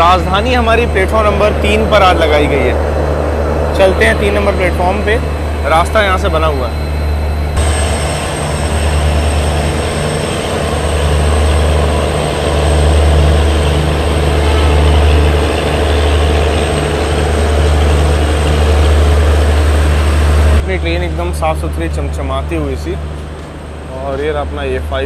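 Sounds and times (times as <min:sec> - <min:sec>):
thin high whine: 0:00.0 - 0:23.2
diesel engine deep hum: 0:00.0 - 0:25.0
steady rushing noise: 0:00.0 - 0:25.0.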